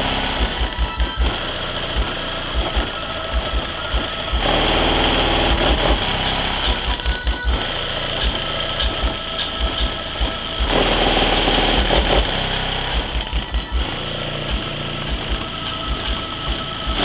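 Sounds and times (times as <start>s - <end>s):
deep bass music from subwoofers: 0.0s - 17.0s.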